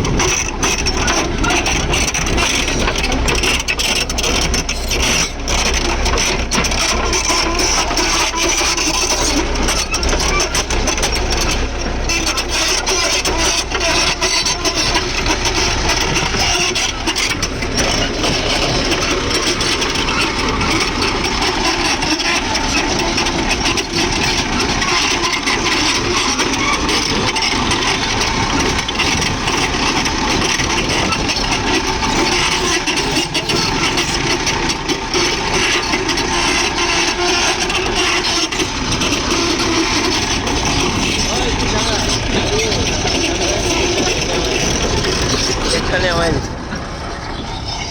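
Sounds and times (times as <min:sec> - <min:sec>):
diesel engine rumbling: 0:00.0 - 0:47.9.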